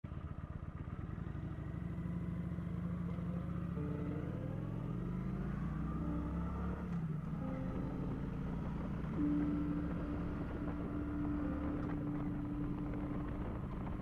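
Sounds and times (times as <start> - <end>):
motorcycle engine running: 0.1 - 14.0.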